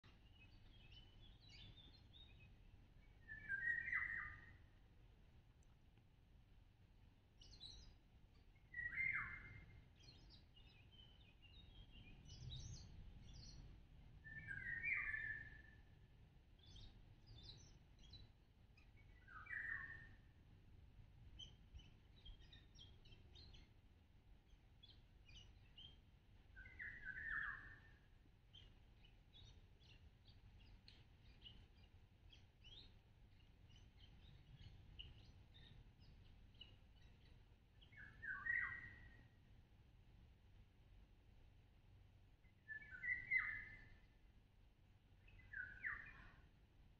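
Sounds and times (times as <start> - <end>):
faint bird chirps and twitters: 0.0 - 6.1, 7.0 - 46.9.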